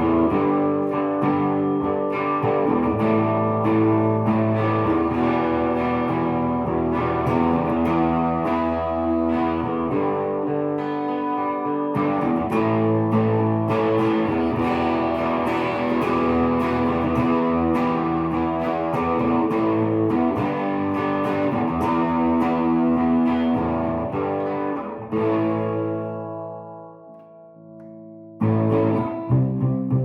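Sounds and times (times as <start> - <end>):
electric guitar strumming chords: 0.0 - 30.0.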